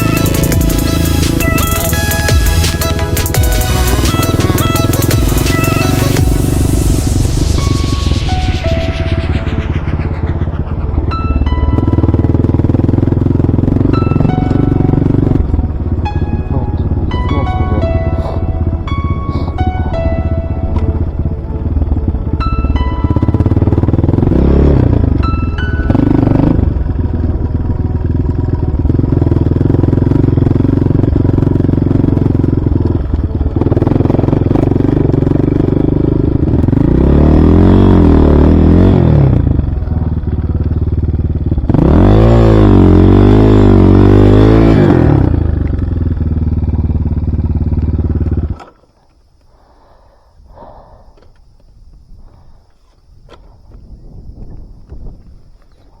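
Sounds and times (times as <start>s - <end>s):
motorcycle engine revving: 0.0s - 49.1s.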